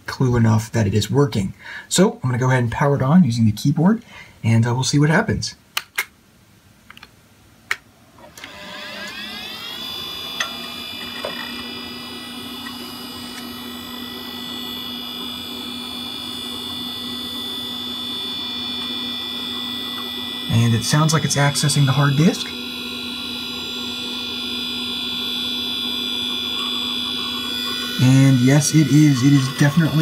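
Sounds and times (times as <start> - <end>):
hard disk whine and hum: 0.0 - 30.0.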